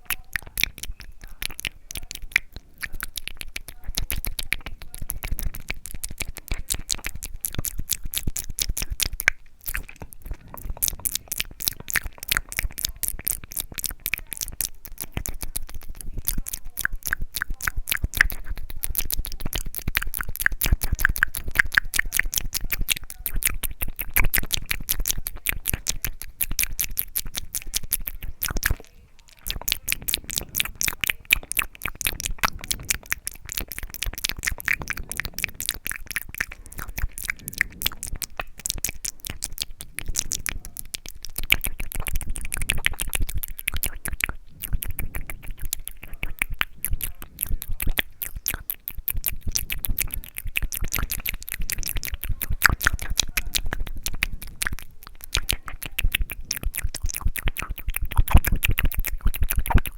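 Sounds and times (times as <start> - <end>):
wet mouth clicks and lip smacks: 0.0 - 59.9.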